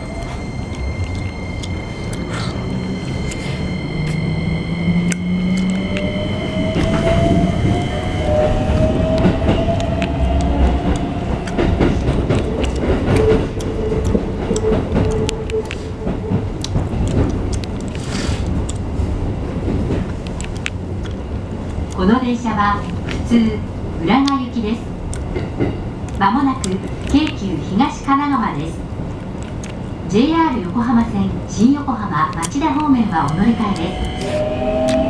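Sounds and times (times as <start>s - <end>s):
electric train inverter whine: 0.0s - 35.0s.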